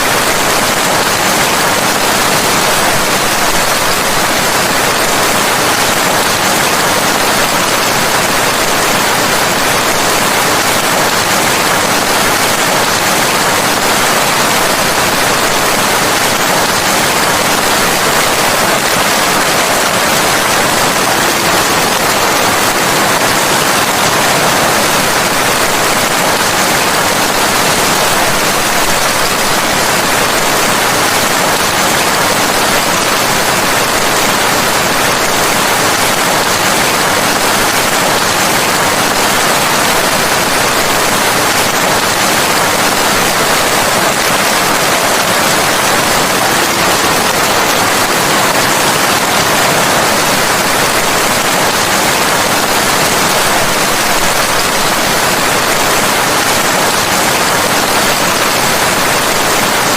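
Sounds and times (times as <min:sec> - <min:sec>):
rain falling steadily: 0:00.0 - 0:59.9.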